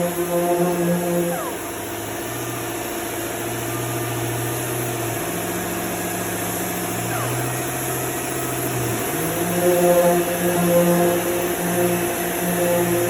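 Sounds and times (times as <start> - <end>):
sander droning: 0.0 - 13.0.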